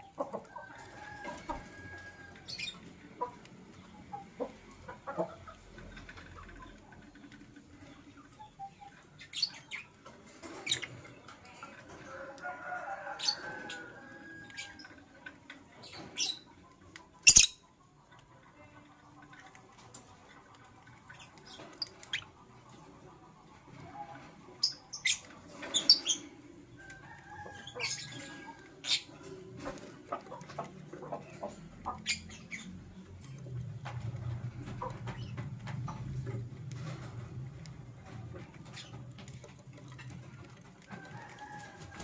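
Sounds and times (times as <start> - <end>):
birds chirping and squeaking: 0.0 - 12.2, 12.8 - 18.2, 19.0 - 42.0.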